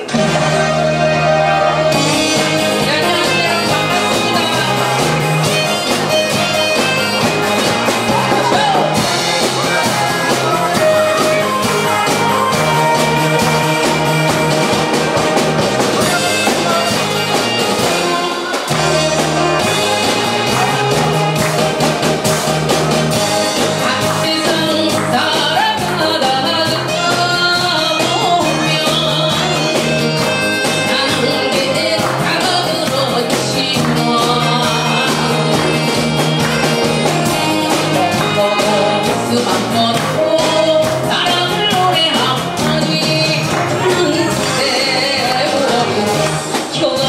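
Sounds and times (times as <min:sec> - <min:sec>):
instrumental music with steady beat: 0:00.0 - 0:47.0.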